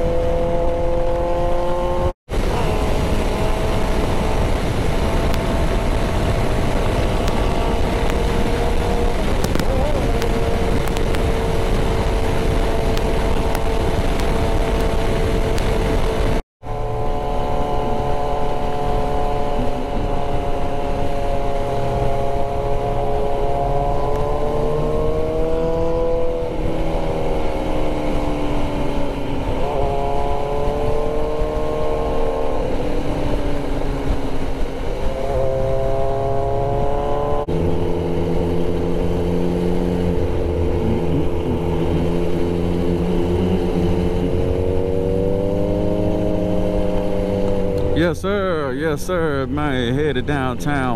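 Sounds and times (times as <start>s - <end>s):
loud wind rush: 0.0s - 50.9s
motorcycle engine running: 0.0s - 50.9s.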